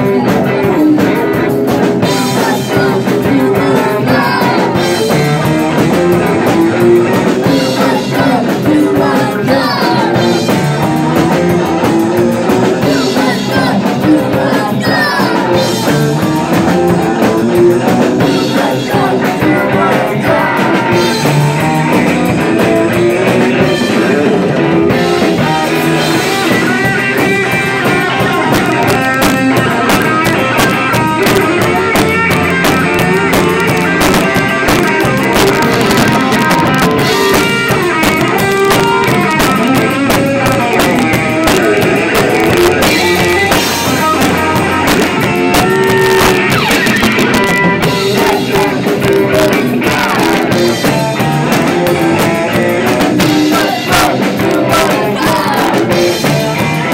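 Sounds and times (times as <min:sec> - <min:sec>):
punk rock band playing: 0:00.0 - 0:56.9.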